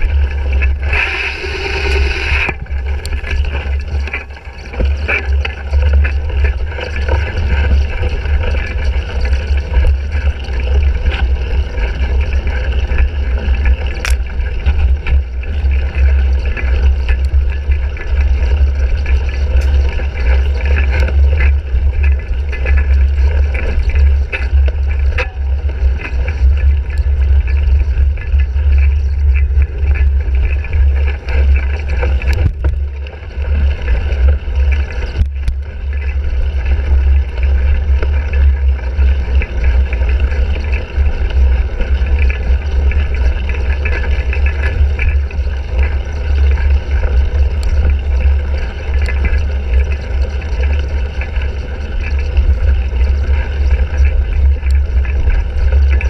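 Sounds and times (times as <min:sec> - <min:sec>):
bicycle rattling: 0:00.0 - 0:56.0
wind rumble on microphone: 0:00.0 - 0:56.0.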